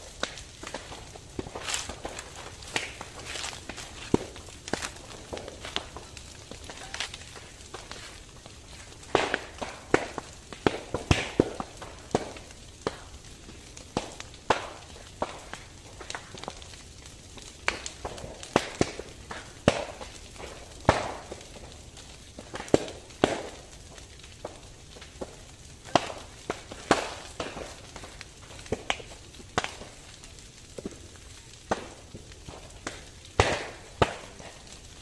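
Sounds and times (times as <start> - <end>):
brush fire crackling: 0.0 - 35.0.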